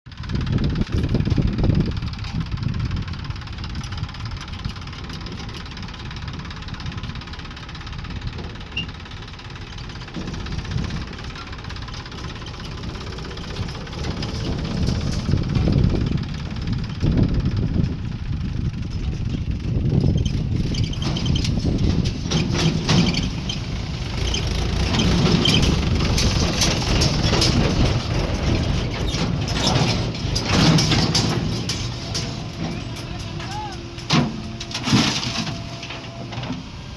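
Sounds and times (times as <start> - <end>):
diesel engine running: 0.1 - 36.9
metallic clanks and knocks: 3.7 - 17.0, 20.0 - 36.7.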